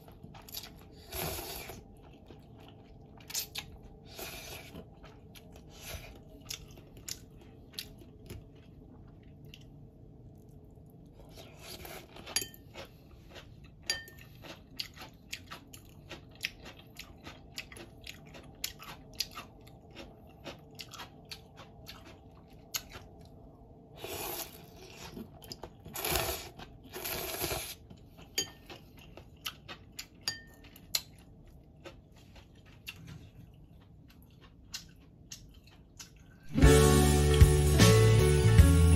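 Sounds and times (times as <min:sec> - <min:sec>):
wet chewing of noodles: 0:00.0 - 0:37.7.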